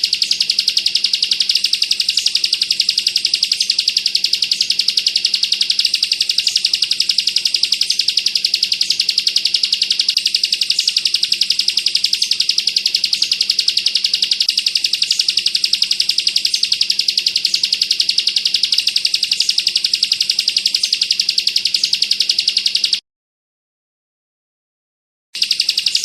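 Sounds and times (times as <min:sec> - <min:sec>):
bird singing a high trill: 0:00.0 - 0:23.0, 0:25.4 - 0:26.0.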